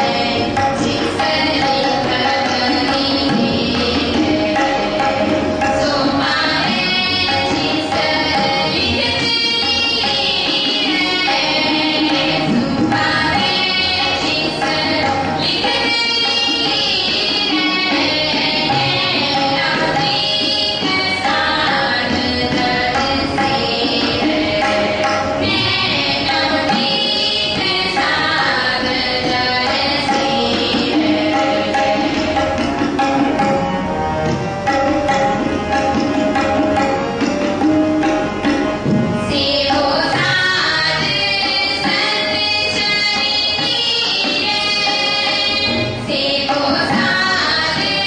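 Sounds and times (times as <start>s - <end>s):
people singing: 0.0s - 33.2s, 39.2s - 48.0s
harmoniums playing: 0.0s - 48.0s
tabla rhythm: 0.0s - 48.0s.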